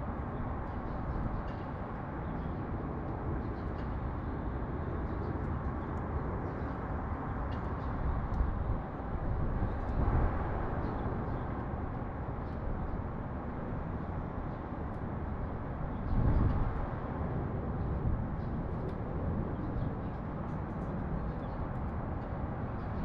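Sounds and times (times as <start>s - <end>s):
city traffic rumble: 0.0s - 23.0s.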